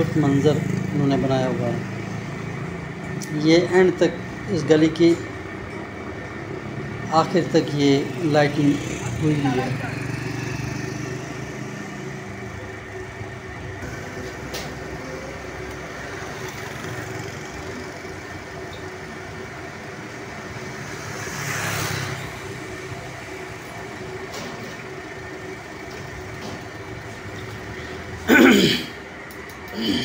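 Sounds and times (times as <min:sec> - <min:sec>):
motorcycle passing: 0:00.0 - 0:04.7, 0:05.4 - 0:28.3
street traffic hum: 0:00.0 - 0:30.0.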